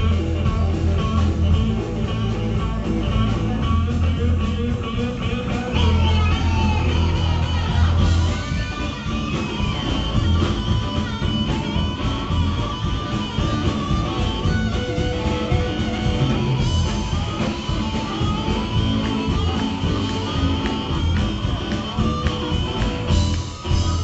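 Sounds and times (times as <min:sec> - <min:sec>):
blues-rock band playing: 0:00.0 - 0:24.0
electric guitar: 0:00.0 - 0:24.0.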